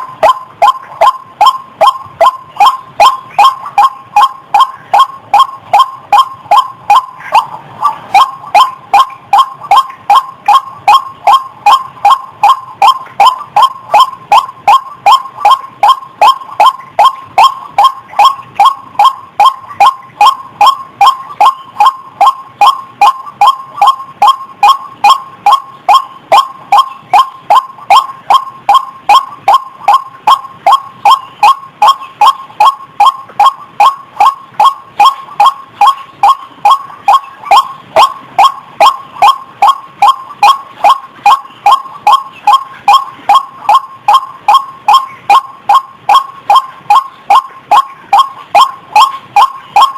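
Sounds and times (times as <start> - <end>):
waterhen calling wak notes: 0.0 - 49.9.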